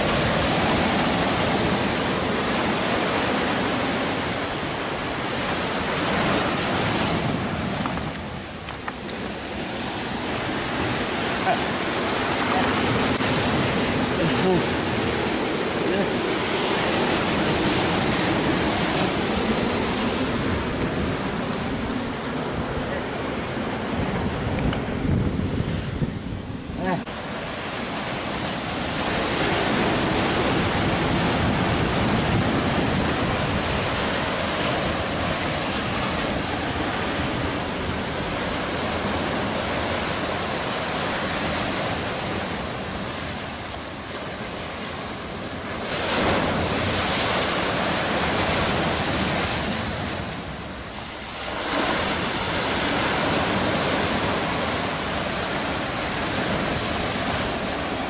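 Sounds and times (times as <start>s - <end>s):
sea waves breaking on rocks: 0.0s - 26.1s, 26.8s - 58.0s.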